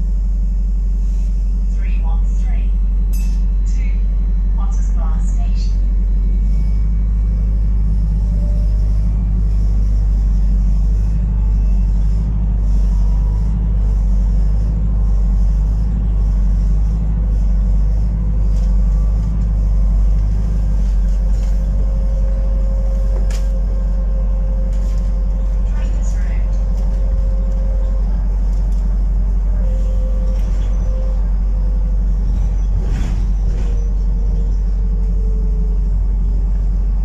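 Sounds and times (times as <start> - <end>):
bus interior rumble: 0.0 - 37.0
faint steady whine: 0.0 - 37.0.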